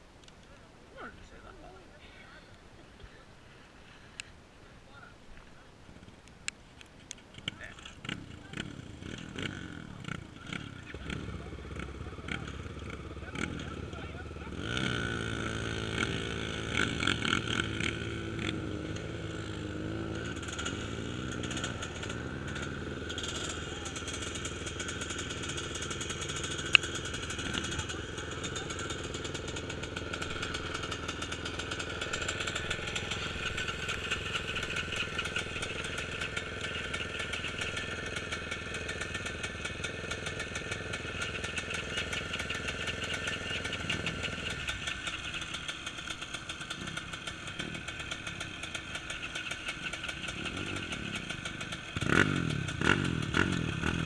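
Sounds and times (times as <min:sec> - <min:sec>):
motorcycle engine running: 0:07.2 - 0:54.0.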